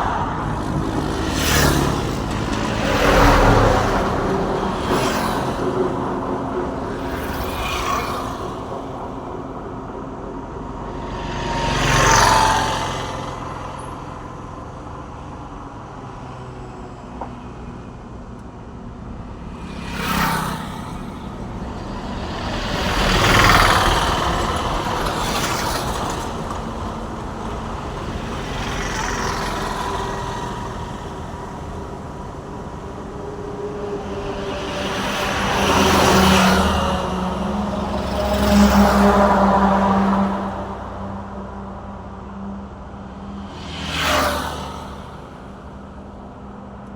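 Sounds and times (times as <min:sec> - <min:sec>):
vehicles passing: 0:00.0 - 0:46.9.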